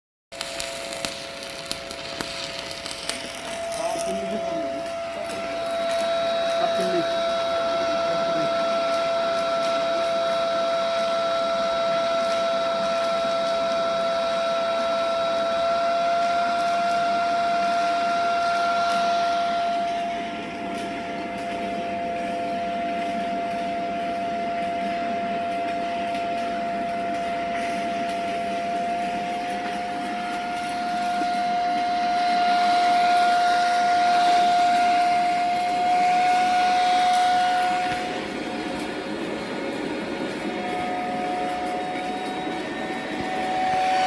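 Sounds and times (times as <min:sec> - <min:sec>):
constant whine: 0:00.3 - 0:44.0
welding arc hissing crackle: 0:00.3 - 0:44.0.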